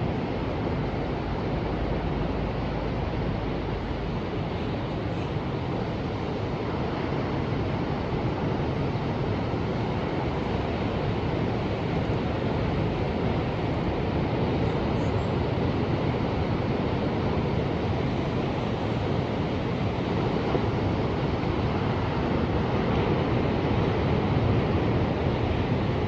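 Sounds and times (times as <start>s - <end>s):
ocean surf waves: 0.0s - 26.0s.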